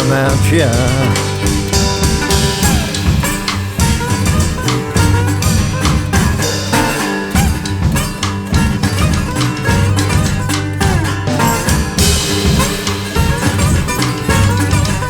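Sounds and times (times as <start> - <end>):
blues band playing: 0.0 - 15.0
double bass: 0.0 - 15.0
drum kit beat: 0.0 - 15.0
guitar: 0.0 - 15.0.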